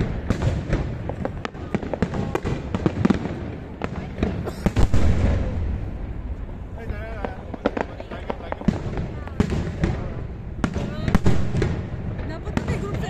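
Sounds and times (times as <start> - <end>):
deep boom and rumble: 0.0 - 13.0
fireworks cracking and banging: 0.0 - 13.0.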